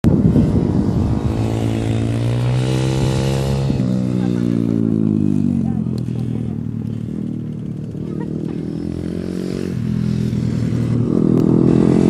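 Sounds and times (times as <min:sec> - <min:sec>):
pit bike engine revving: 0:00.1 - 0:12.0.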